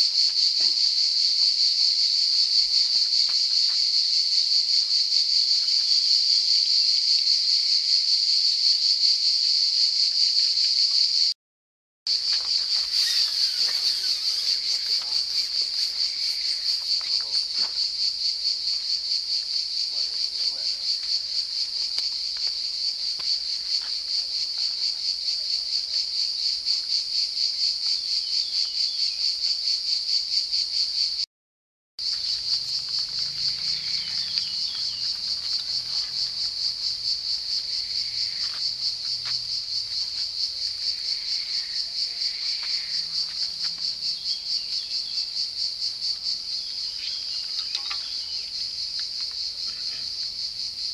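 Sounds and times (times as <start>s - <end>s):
cicadas singing: 0.0s - 11.3s, 12.1s - 31.2s, 32.0s - 50.9s.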